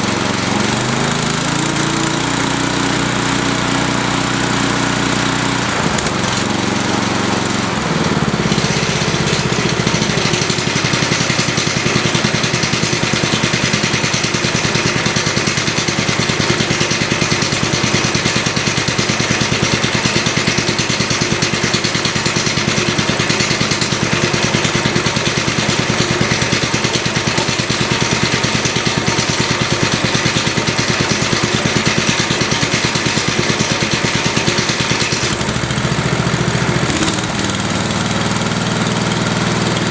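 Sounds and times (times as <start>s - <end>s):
brush mower engine running: 0.0s - 39.9s.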